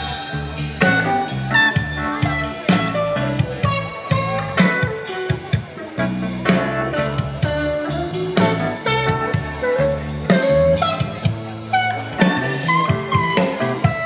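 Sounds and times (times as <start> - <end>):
electric guitar melody: 0.0 - 14.0
live band playing: 0.0 - 14.0
steady drum beat: 0.0 - 14.0.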